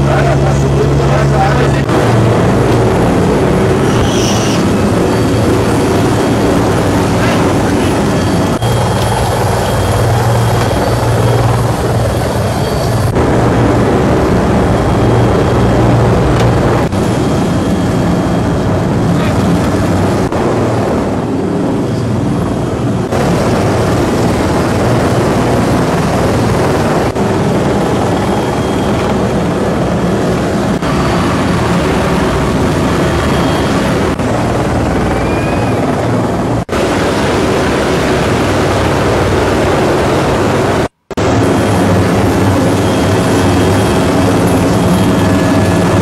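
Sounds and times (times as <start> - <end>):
helicopter rotor and engine: 0.0 - 46.0.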